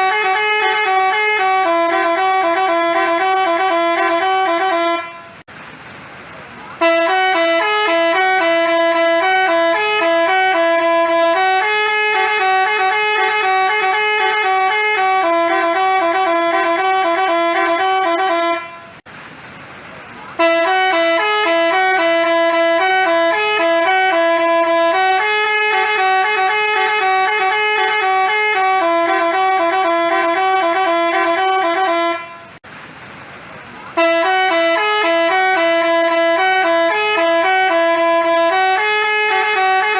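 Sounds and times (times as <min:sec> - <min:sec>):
bus horn playing a melody: 0:00.0 - 0:05.5, 0:06.8 - 0:19.1, 0:20.3 - 0:32.6, 0:33.9 - 0:39.9.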